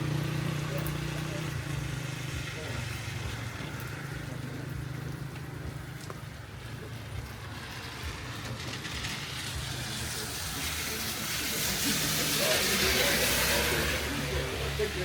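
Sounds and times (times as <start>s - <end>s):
vehicle humming: 0.0s - 15.0s.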